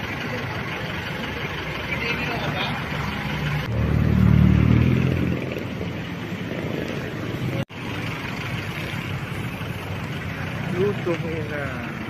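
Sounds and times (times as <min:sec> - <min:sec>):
hum of traffic: 0:00.0 - 0:12.0
vehicle engine running close by: 0:00.0 - 0:12.0.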